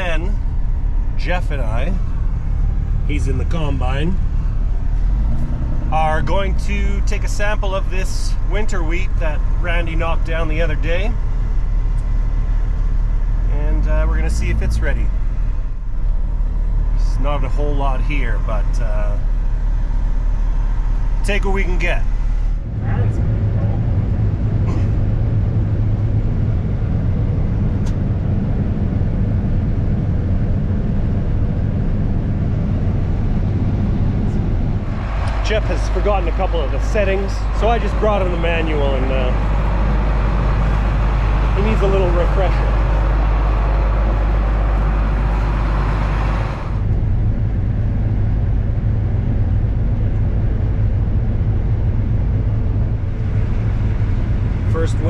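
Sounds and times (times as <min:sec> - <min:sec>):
dull deep hum: 0:00.0 - 0:55.0
heavy vehicle engine droning: 0:00.0 - 0:55.0.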